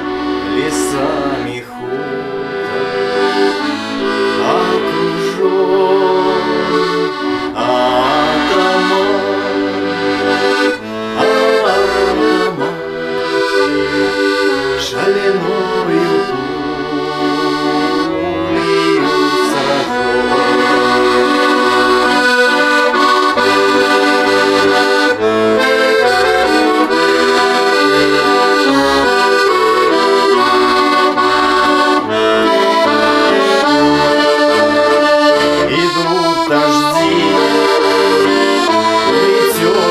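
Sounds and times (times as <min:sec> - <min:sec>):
accordion playing folk tune: 0:00.0 - 0:39.9.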